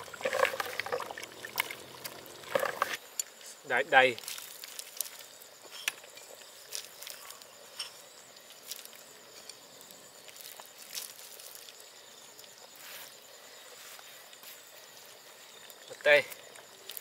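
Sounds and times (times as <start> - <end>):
steady soft hiss: 2.3 - 17.0.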